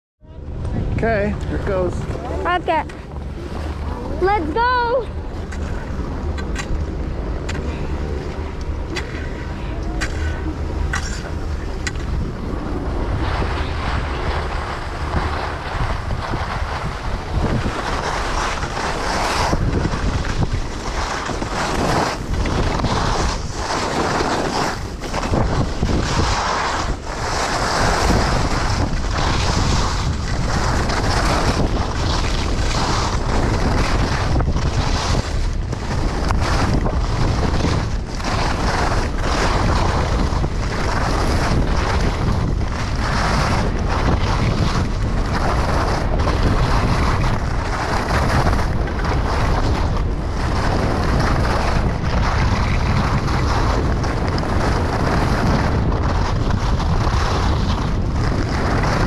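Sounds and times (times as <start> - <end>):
wind buffeting microphone: 0.2 - 59.0.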